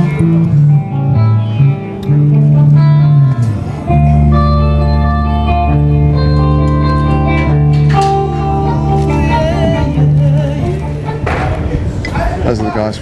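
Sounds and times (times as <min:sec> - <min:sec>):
low held bass note: 0:00.0 - 0:12.0
electric guitar sustained notes: 0:00.0 - 0:12.1.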